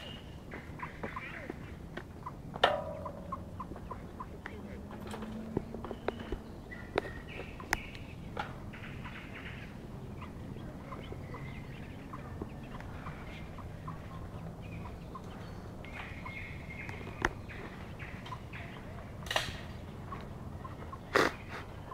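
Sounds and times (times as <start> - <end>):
ducklings peeping: 0.0 - 19.2, 19.8 - 21.9.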